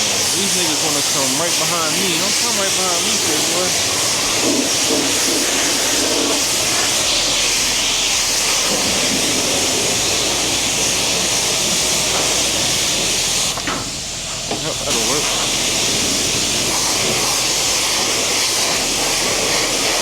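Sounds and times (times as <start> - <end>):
water spray hissing on car: 0.0 - 20.0.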